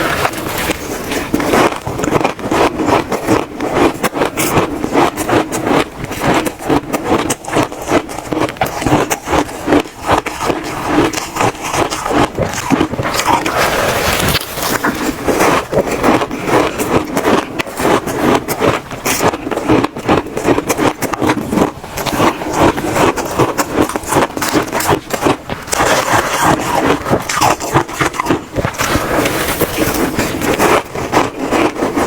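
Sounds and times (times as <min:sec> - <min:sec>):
crunching of chewed ice: 0:00.0 - 0:32.0.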